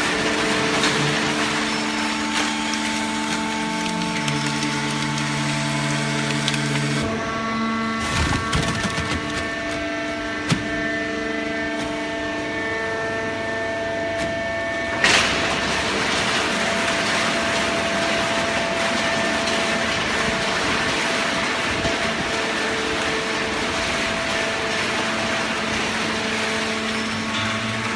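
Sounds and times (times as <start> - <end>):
baling press machine hum: 0.0 - 27.9.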